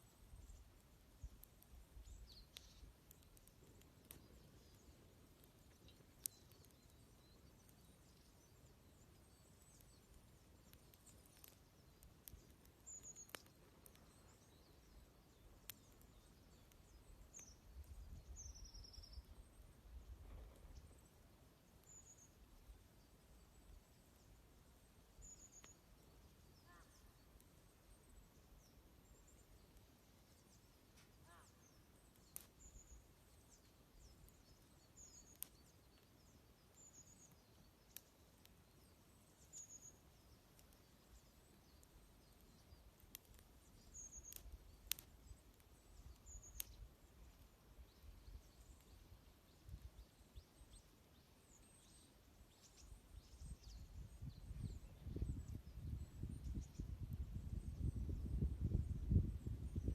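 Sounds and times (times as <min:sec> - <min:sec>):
bonfire crackling pops: 0:00.0 - 0:59.9
small birds chirping: 0:00.0 - 0:59.9.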